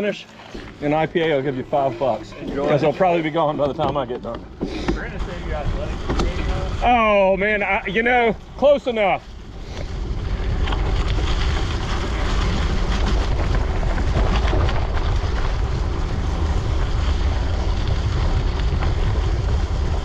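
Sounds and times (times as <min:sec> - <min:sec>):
bicycle tyres rolling on road: 0:00.0 - 0:20.0
wind rumble on microphone: 0:02.3 - 0:20.0.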